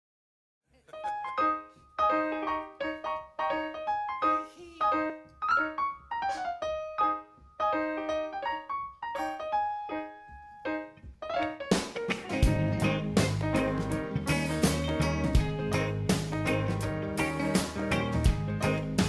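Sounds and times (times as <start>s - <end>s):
solo piano playing: 1.0s - 19.0s.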